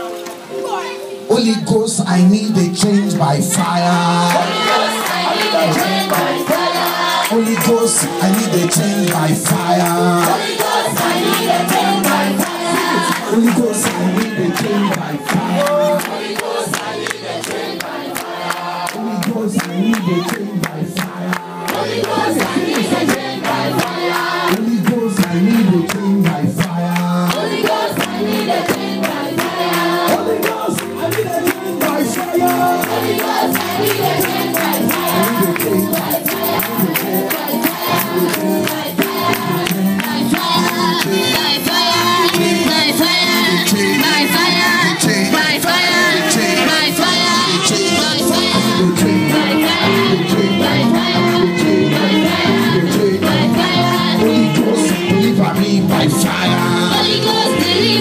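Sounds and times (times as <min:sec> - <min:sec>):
crowd singing: 0:01.2 - 0:58.0
hand percussion beat: 0:02.8 - 0:58.0.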